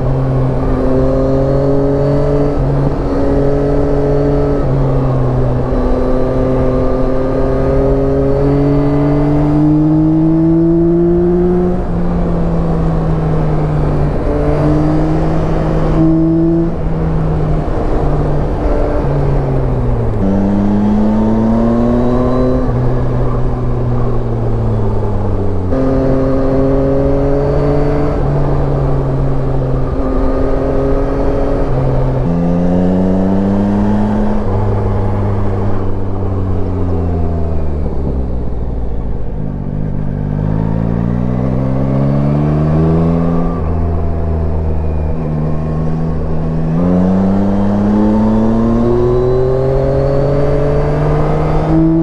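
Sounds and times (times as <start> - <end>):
low wind rumble: 0.0 - 52.0
motorcycle engine accelerating: 0.0 - 52.0.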